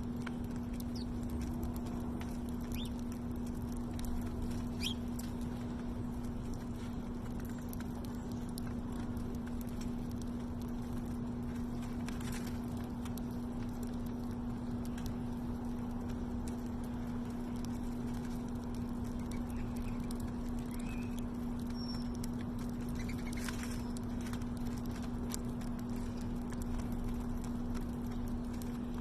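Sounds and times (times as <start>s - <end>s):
steady low hum: 0.0s - 29.0s
birds pecking taps: 0.2s - 15.2s, 16.0s - 29.0s.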